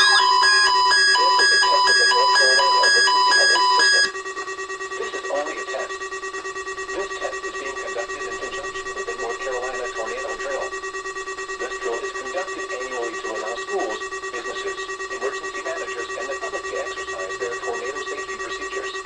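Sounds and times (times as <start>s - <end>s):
electronic alarm beeping: 0.0s - 19.0s
steady electronic tones: 0.0s - 19.0s.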